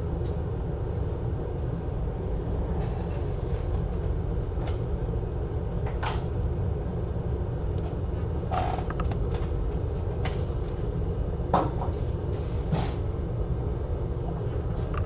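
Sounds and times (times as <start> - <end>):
low hum of bench equipment: 0.0 - 15.0.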